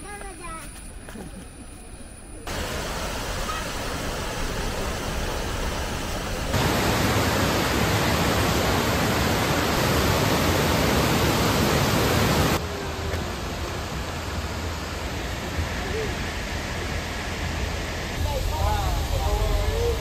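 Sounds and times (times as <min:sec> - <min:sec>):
waterfall rushing: 0:02.5 - 0:20.0.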